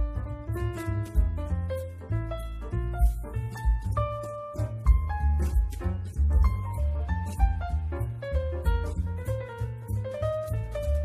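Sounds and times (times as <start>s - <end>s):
light keyboard tune with beat: 0.0s - 11.0s.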